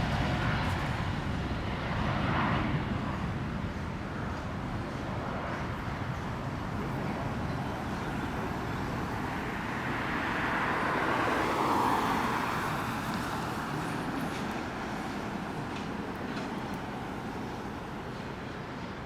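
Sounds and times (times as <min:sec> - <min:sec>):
jet engine rumble: 0:00.0 - 0:19.0.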